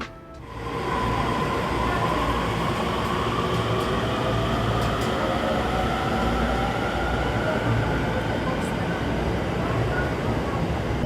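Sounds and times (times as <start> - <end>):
electric train rumbling on rails: 0.0 - 11.0.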